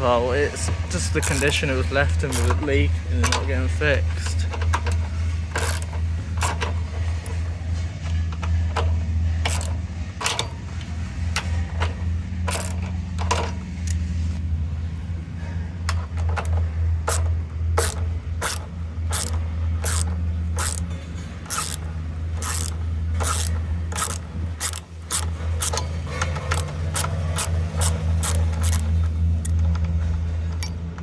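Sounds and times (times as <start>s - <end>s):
steady low hum: 0.0s - 31.0s
hand tools clicking on metal: 0.6s - 7.4s, 8.0s - 14.0s, 15.9s - 31.0s.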